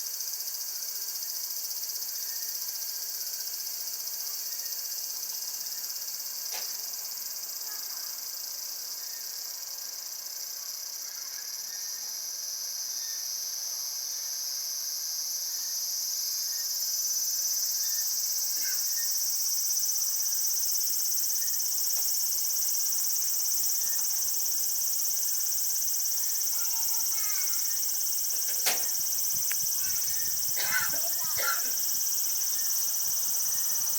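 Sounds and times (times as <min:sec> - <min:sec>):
cicadas buzzing: 0:00.1 - 0:33.9.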